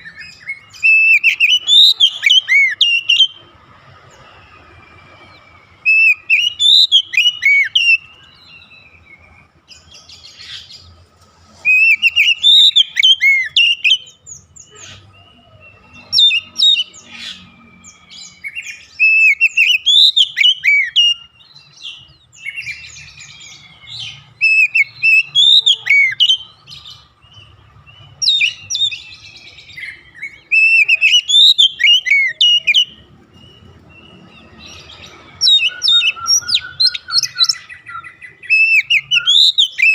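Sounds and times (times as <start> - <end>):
bird singing whistled trills: 0.0 - 3.5, 4.1 - 11.0, 11.6 - 39.9.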